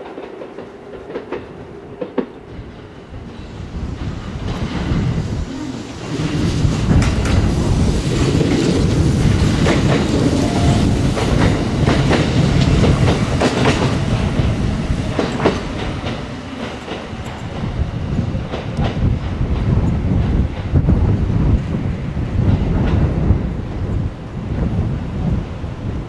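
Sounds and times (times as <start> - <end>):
train wheels clacking on rails: 0.0 - 24.0
train rumble: 0.0 - 26.0.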